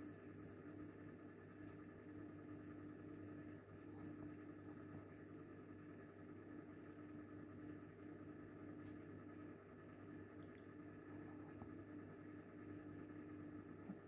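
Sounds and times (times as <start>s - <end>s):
aquarium equipment hum: 0.0s - 14.0s.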